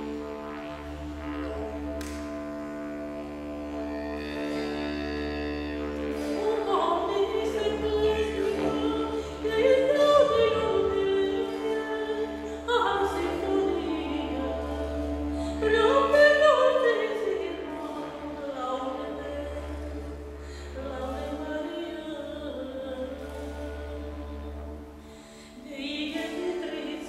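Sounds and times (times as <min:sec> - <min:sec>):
didgeridoo drone: 0:00.0 - 0:27.0.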